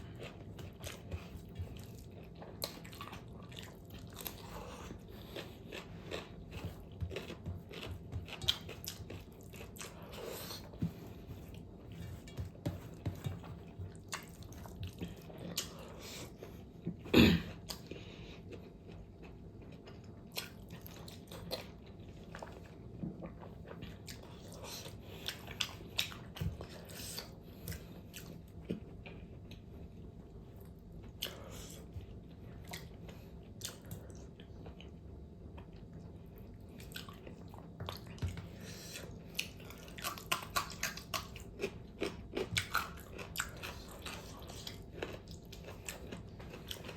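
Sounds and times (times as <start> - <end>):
person chewing wetly: 0.0 - 29.8, 30.6 - 46.9.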